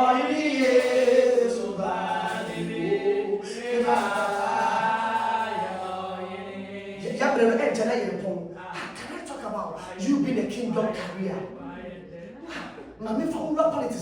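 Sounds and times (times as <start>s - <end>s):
voices singing a chant: 0.0s - 14.0s.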